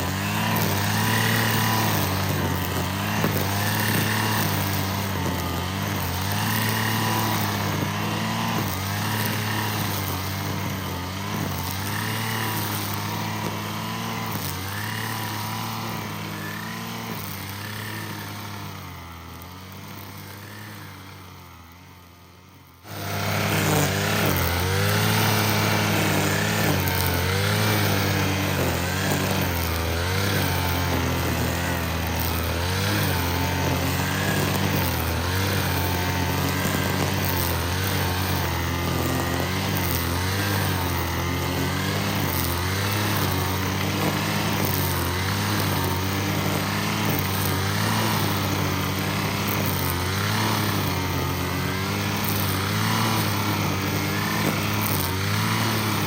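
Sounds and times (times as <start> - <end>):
string trimmer engine running: 0.0 - 56.0.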